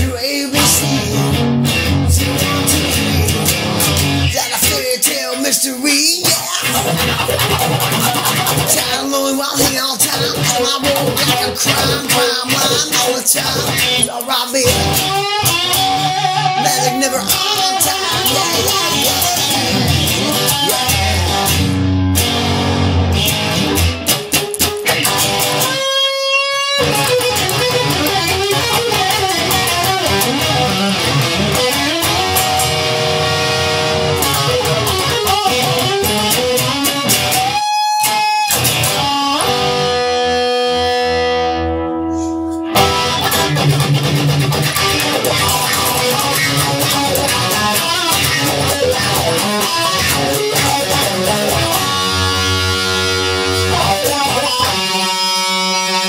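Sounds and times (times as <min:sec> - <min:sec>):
instrumental guitar music: 0:00.0 - 0:56.0.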